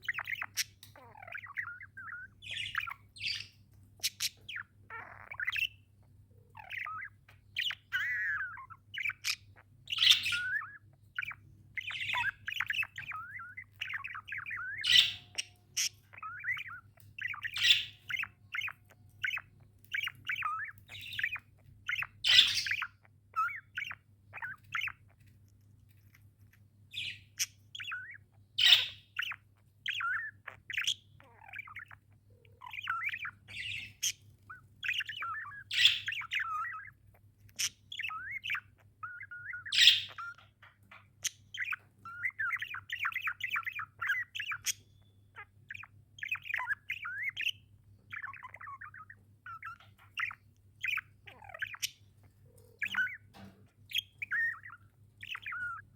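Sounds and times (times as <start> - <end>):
sharp bird calls: 0.0 - 25.3, 25.9 - 55.9
budgerigars chirping and chattering: 0.0 - 55.9.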